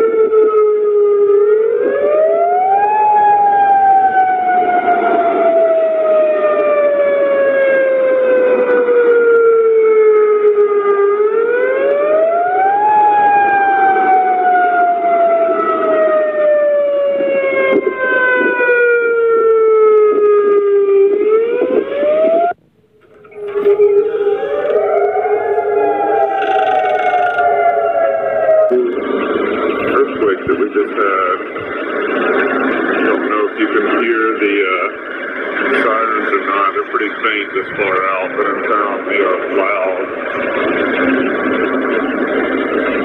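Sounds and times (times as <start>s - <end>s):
warning siren wailing: 0.0s - 43.0s.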